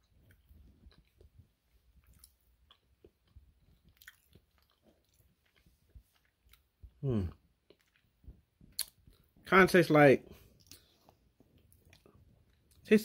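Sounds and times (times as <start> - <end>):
man chewing: 0.0 - 9.4, 10.3 - 12.8
mouth clicks and smacks: 0.0 - 9.5, 10.6 - 12.9.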